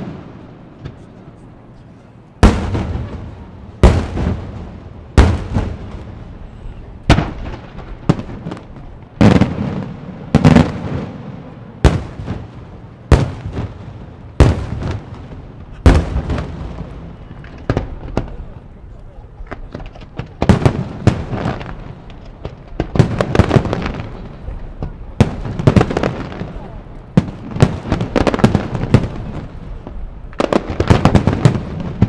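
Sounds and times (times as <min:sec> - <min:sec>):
fireworks bursting with echo: 0:00.0 - 0:01.2, 0:02.4 - 0:32.0.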